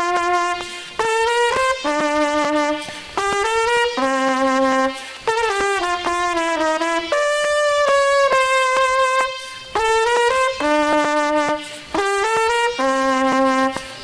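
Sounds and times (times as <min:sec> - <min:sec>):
solo trumpet slow melody: 0:00.0 - 0:14.0.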